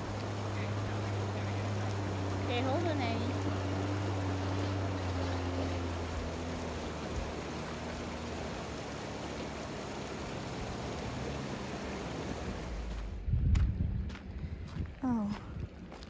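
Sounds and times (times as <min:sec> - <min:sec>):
river water rushing over riffle: 0:00.0 - 0:13.2
car engine hum: 0:00.0 - 0:16.0.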